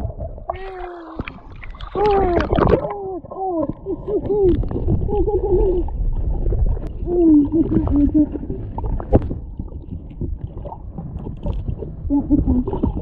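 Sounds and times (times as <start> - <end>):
underwater rushing water rumble: 0.0 - 13.0.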